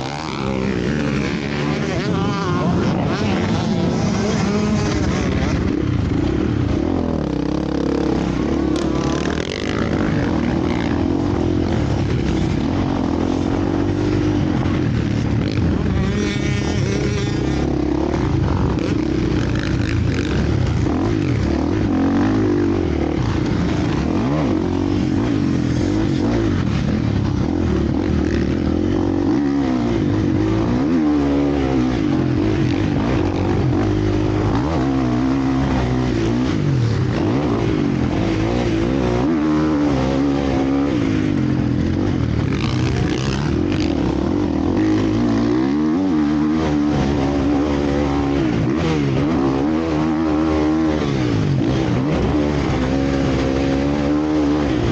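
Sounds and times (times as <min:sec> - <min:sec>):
motocross bike engines revving: 0:00.0 - 0:54.9.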